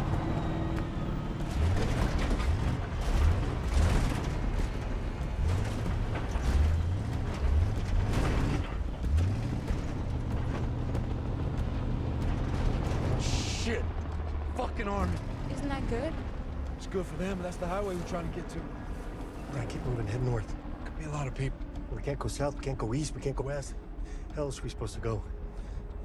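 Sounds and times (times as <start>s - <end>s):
truck engine revving: 0.0s - 23.0s
cab rattling and creaking: 0.0s - 25.4s.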